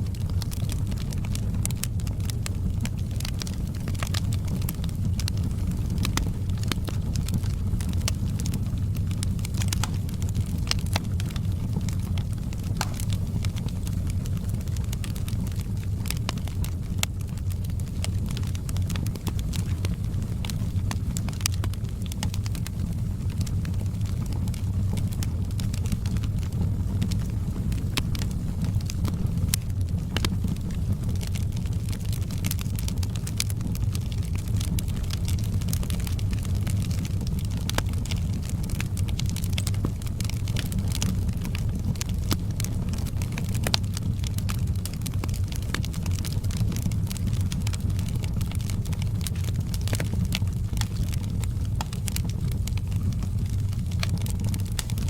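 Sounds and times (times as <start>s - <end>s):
wood crackling and popping: 0.0s - 55.0s
wood fire rumbling: 0.0s - 55.0s.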